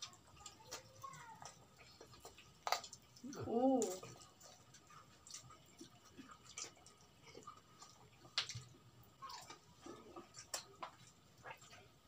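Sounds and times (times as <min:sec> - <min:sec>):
chewing and mouth clicks: 0:00.0 - 0:12.0.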